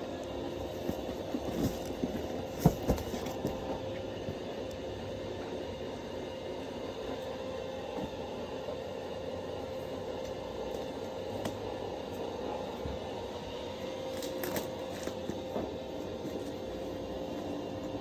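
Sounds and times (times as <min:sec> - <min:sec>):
mechanical hum and rumble: 0:00.0 - 0:18.0.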